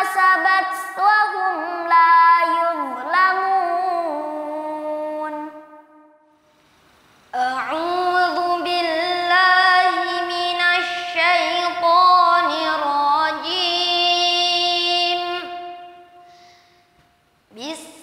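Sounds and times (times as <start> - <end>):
child reciting melodically: 0.0 - 5.6, 7.4 - 16.1, 17.5 - 18.0.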